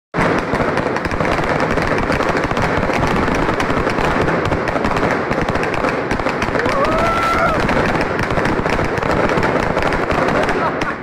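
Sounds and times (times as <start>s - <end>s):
fireworks crackling and banging: 0.2s - 11.0s.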